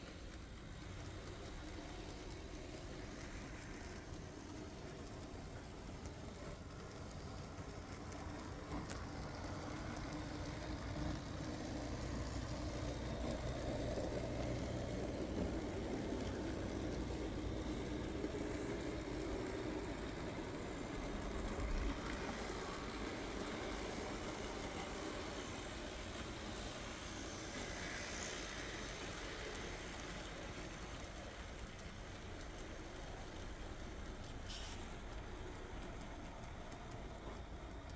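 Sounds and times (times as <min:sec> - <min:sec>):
model train motor whirring: 0:00.0 - 0:37.9.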